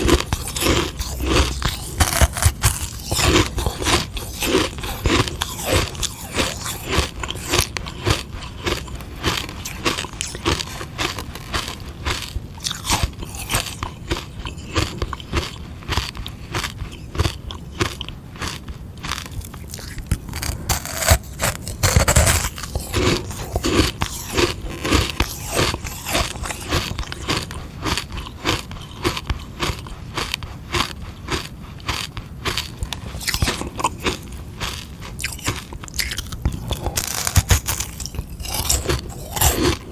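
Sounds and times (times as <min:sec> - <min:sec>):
teeth crunching hard ice: 0:00.0 - 0:39.9.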